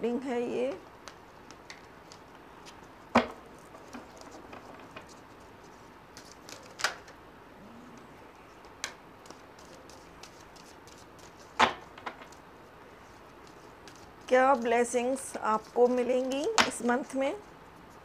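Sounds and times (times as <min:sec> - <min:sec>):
cards being shuffled: 0:00.7 - 0:07.2, 0:08.6 - 0:18.0.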